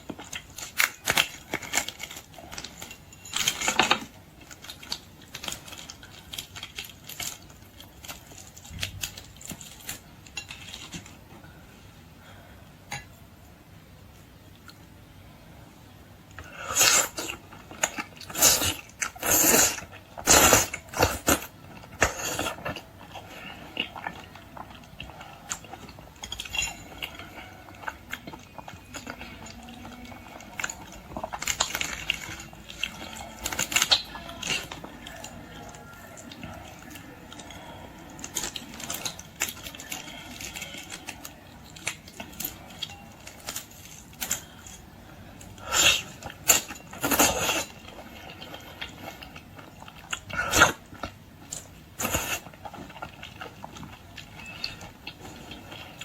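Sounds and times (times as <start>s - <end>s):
wet chewing: 0.0s - 11.6s, 16.3s - 56.0s.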